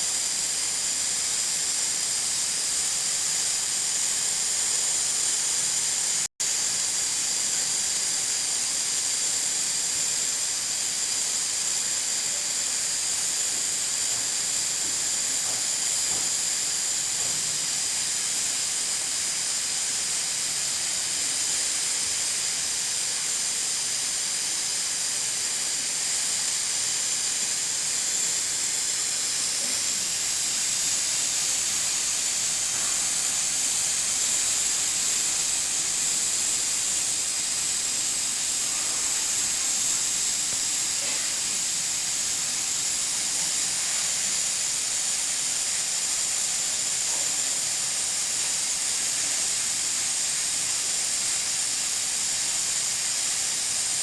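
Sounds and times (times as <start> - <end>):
pressure cooker hissing: 0.0 - 54.0.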